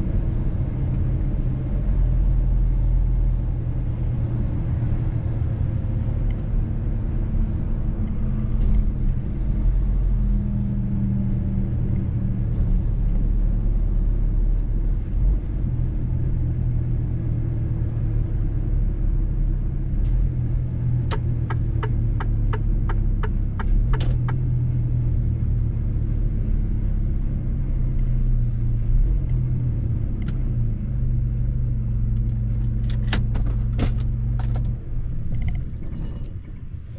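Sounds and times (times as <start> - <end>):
truck engine and road drone: 0.0 - 36.9.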